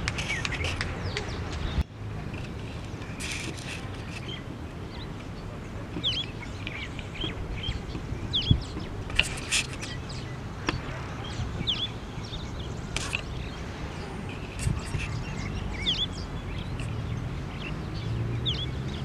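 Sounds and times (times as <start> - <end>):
low outdoor background: 0.0 - 19.0
wild birds chirping: 0.0 - 19.0.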